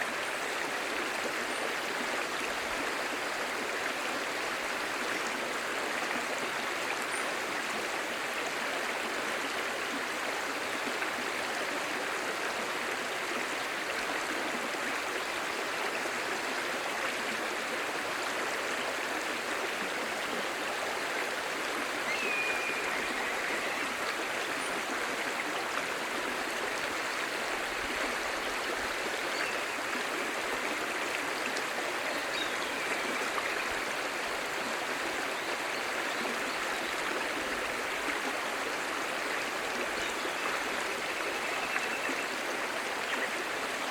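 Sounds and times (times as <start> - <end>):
stream babbling: 0.0 - 43.9.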